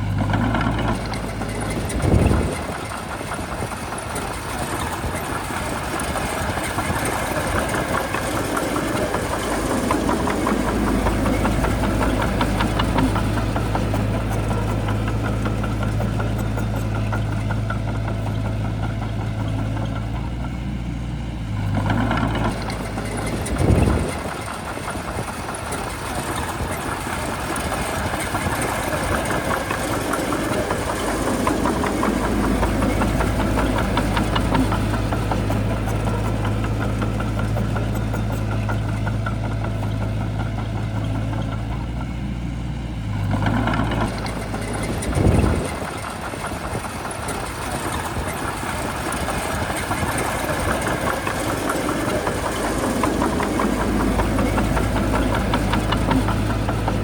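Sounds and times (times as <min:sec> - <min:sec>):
bulldozer diesel engine clattering: 0:00.0 - 0:57.0.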